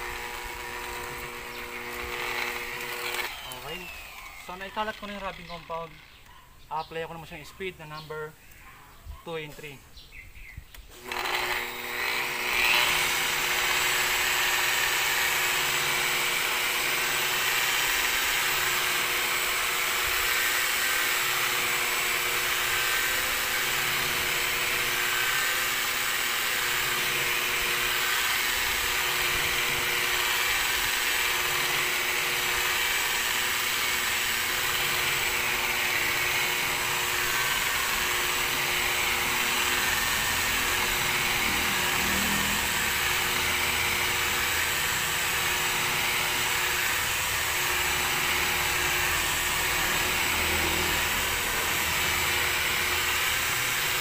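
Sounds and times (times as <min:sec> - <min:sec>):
rotary car polisher running: 0:00.0 - 0:07.5, 0:10.9 - 0:54.0.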